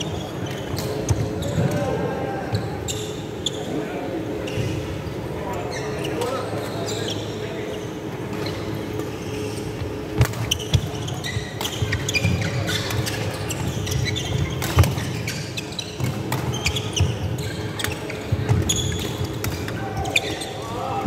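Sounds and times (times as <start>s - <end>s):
low hall hum: 0.0s - 21.0s.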